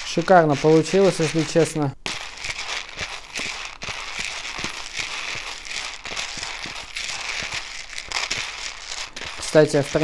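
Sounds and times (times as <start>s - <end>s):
coffee beans rattling in a bowl: 0.0s - 10.0s
steady hiss: 0.0s - 10.0s.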